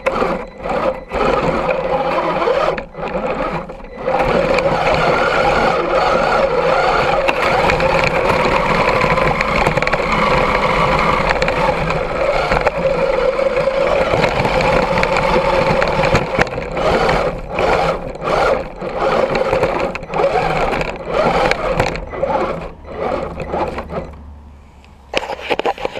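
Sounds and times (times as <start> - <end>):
electric motor and gears whining: 0.0 - 25.9.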